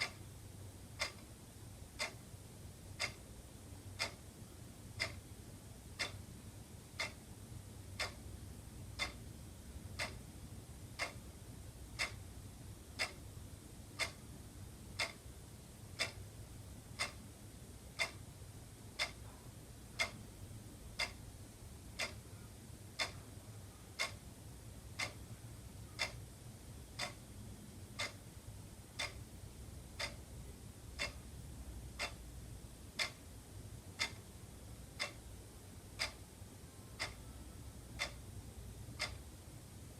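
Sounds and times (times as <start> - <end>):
low steady hum: 0.0 - 39.9
wall clock ticking: 0.0 - 39.9.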